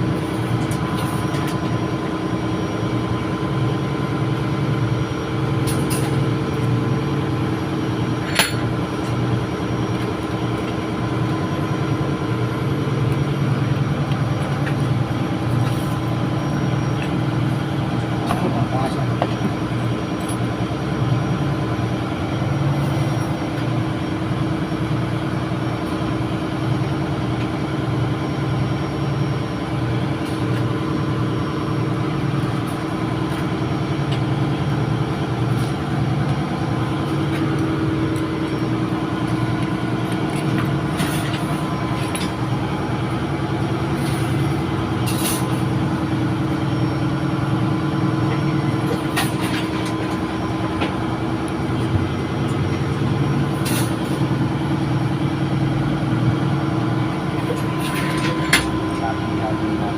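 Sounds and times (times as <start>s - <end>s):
engine room machinery droning: 0.0s - 59.9s.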